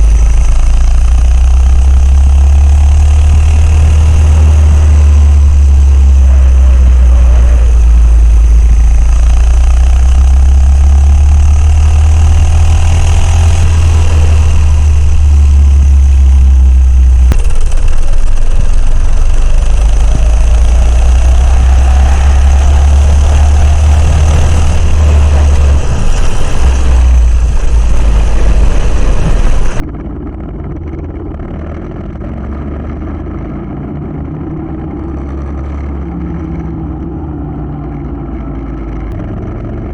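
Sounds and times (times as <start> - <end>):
minibike engine revving: 0.0 - 37.0
wind rumble on microphone: 0.0 - 39.9.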